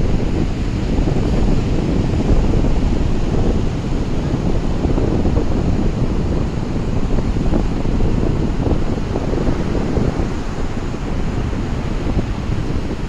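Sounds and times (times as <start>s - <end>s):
sea surf washing: 0.0s - 13.0s.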